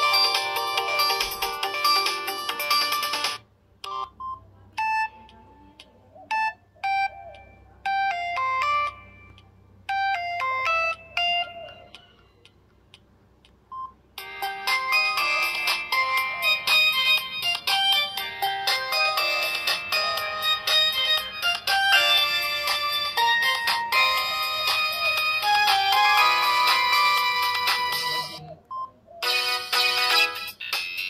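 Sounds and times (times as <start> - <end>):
busy polyphonic ringtone: 0.0 - 5.6, 6.2 - 12.4, 13.7 - 31.0.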